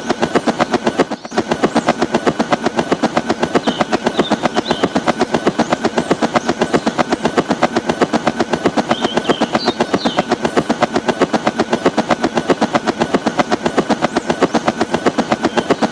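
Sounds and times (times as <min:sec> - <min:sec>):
fast mechanical clatter: 0:00.0 - 0:15.9.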